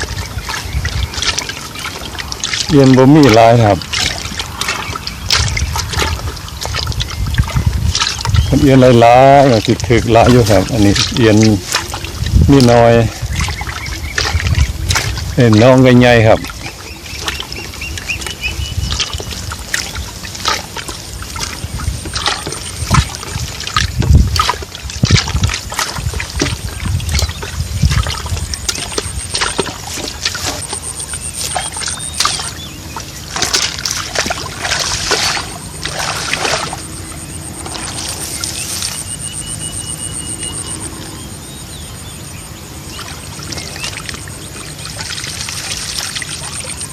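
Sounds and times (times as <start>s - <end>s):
water splashing and pouring: 0.0s - 41.2s, 42.7s - 46.9s.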